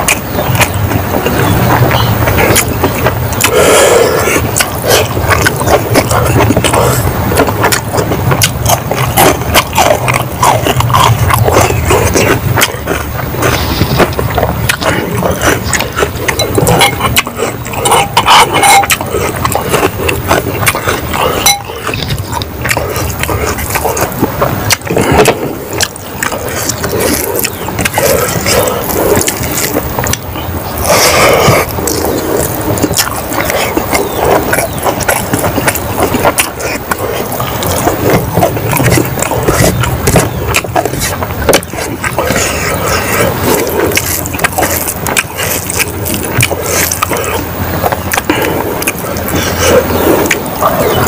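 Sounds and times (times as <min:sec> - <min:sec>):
chewing and lip-smacking: 0:00.0 - 0:51.0.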